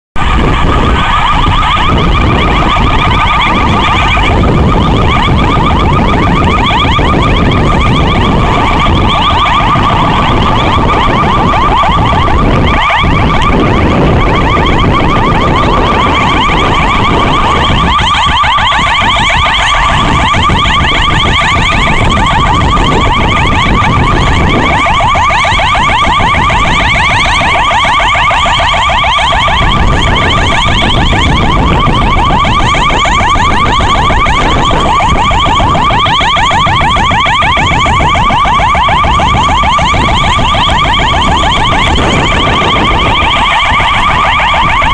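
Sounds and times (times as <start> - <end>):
ambulance siren wailing: 0.2 - 44.9
traffic rumble: 0.2 - 44.9.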